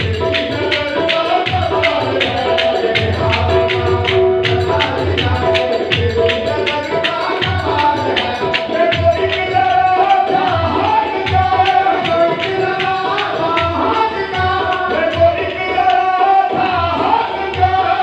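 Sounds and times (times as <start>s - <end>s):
hand drum beat: 0.0s - 18.0s.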